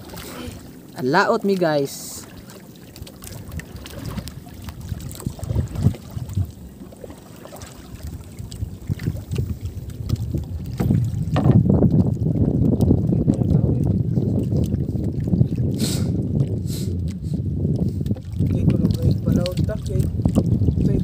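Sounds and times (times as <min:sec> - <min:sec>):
water slapping against hull: 0:00.0 - 0:21.0
wind buffeting microphone: 0:00.0 - 0:21.0.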